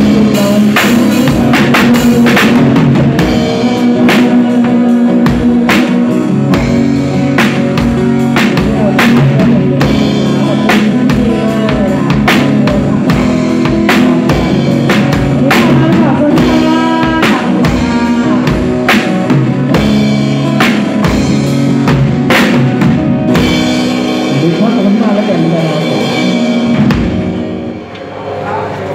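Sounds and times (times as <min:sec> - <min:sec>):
drum kit playing: 0:00.0 - 0:28.9.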